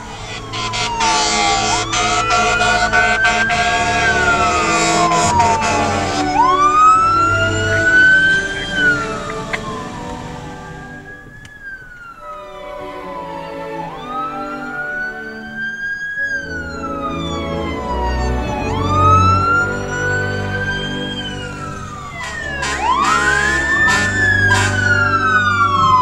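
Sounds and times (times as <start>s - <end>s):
fire engine rumble: 0.0s - 26.0s
sirens wailing: 0.0s - 26.0s.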